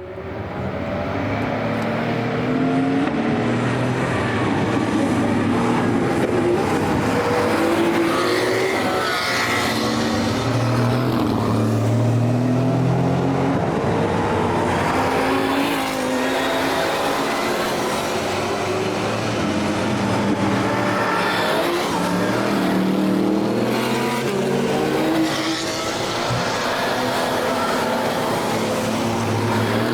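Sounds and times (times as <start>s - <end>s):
race cars passing at speed: 0.0s - 29.9s.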